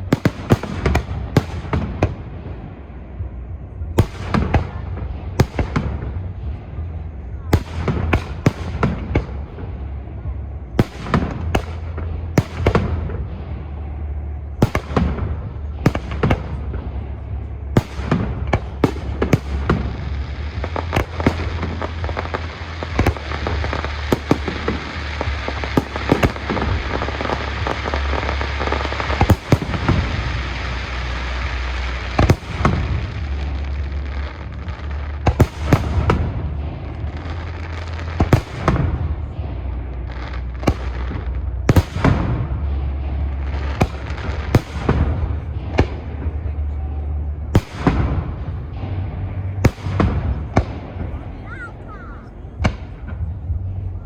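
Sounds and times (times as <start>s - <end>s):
crackling fireworks: 0.0s - 54.0s
low rumble: 0.0s - 54.0s.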